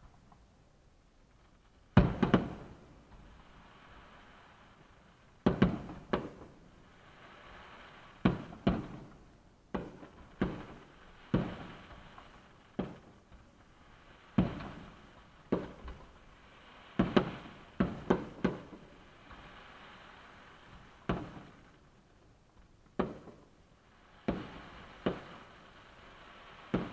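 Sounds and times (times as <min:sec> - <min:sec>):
fireworks exploding with echo: 0:01.3 - 0:26.9.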